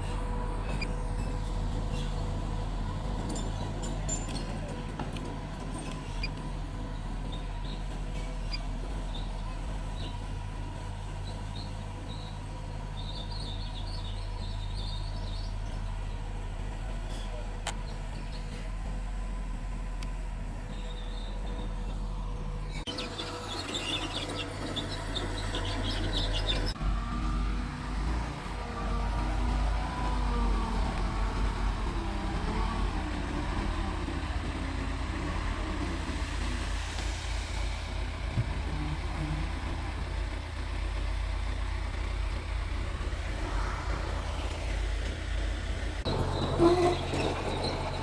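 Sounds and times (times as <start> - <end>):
bulldozer diesel engine droning: 0.0 - 48.0.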